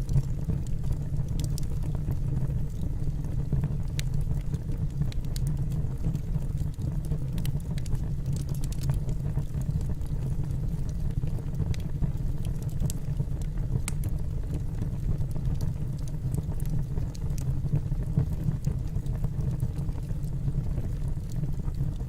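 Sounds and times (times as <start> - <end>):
crackles and pops of burning logs: 0.0 - 22.0
low rumble of flames: 0.0 - 22.0.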